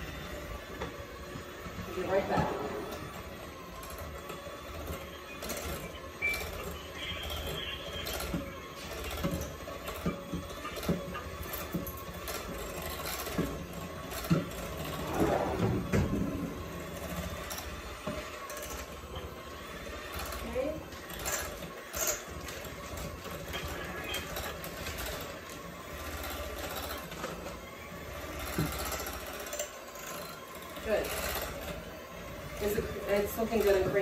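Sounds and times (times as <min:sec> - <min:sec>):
electric hand mixer running: 0:00.0 - 0:34.0.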